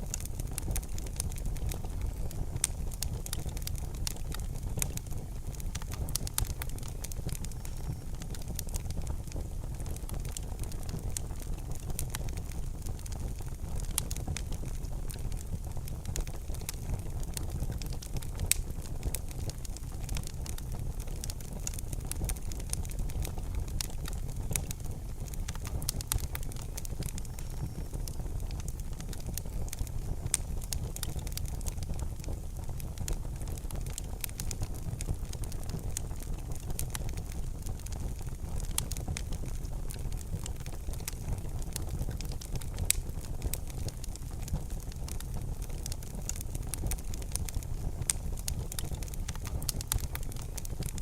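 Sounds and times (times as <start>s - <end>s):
low rumble of burning: 0.0s - 51.0s
wood fire crackling: 0.0s - 51.0s.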